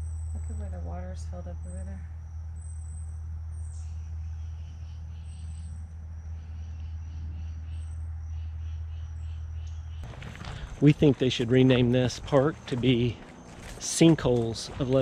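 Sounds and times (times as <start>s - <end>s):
insects chirping: 0.0s - 15.0s
low hum: 0.0s - 15.0s.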